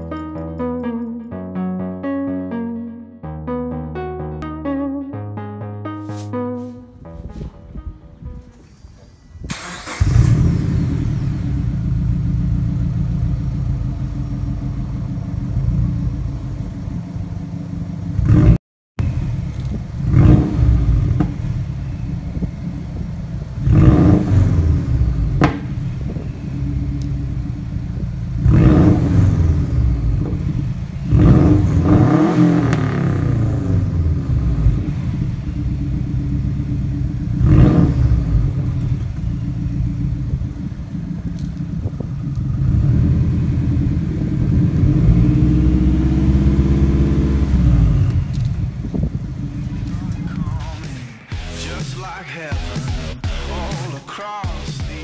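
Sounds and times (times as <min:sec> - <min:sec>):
car engine idling and revving: 0:09.5 - 0:53.8.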